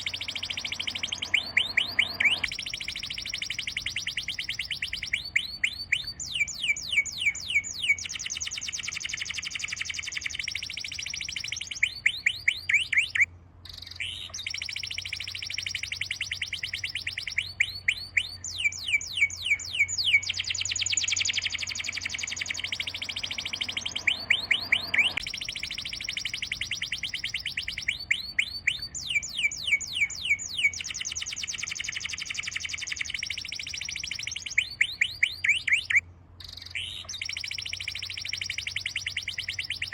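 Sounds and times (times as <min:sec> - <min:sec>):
faint low hum: 0:00.0 - 0:12.5, 0:13.2 - 0:35.2
songbird chirping and trilling: 0:00.0 - 0:39.9.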